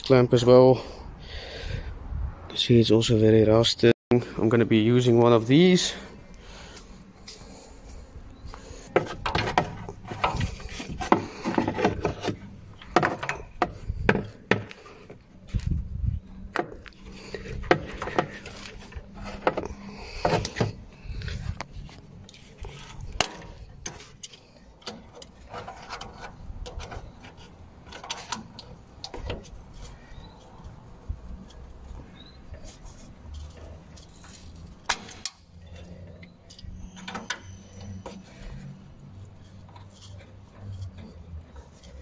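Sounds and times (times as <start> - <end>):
rubber hose rubbing and scraping: 6.7 - 42.0.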